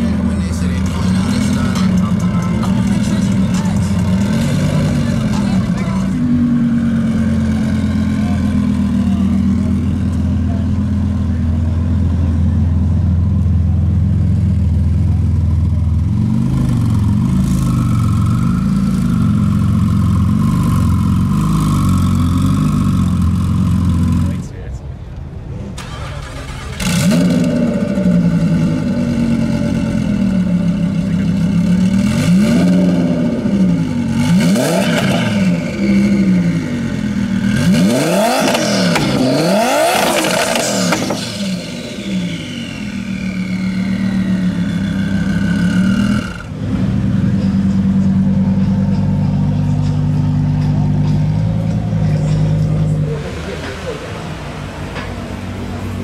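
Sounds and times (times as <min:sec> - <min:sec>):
car engine revving: 0:00.0 - 0:24.7, 0:25.7 - 0:56.0.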